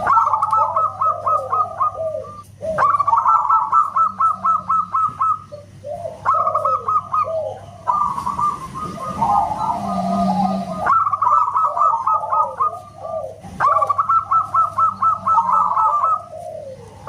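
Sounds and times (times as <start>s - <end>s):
doves cooing: 0.0s - 17.0s
steady low hum: 0.0s - 17.0s.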